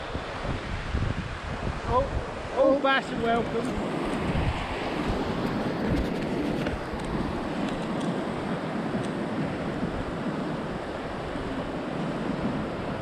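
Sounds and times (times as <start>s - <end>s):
sea surf washing onto shore: 0.0s - 13.0s
wind buffeting microphone: 0.0s - 13.0s.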